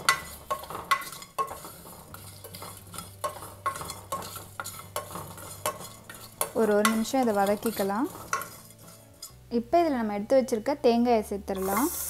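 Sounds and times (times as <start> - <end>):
utensil scraping a pan: 0.0 - 9.4, 11.6 - 12.0
light sizzle: 0.0 - 10.6, 11.5 - 12.0.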